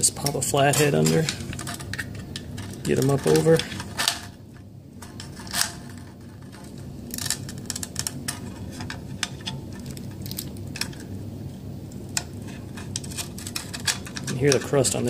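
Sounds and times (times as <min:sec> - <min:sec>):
metal clicks and scrapes: 0:00.2 - 0:11.1, 0:12.2 - 0:15.0.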